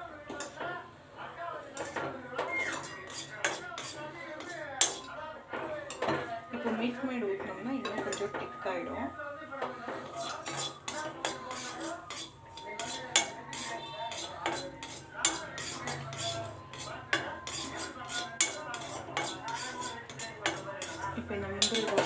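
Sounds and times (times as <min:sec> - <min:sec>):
metal spoon scraping a pan: 0:00.3 - 0:00.6, 0:01.7 - 0:06.4, 0:07.4 - 0:08.6, 0:09.6 - 0:22.0.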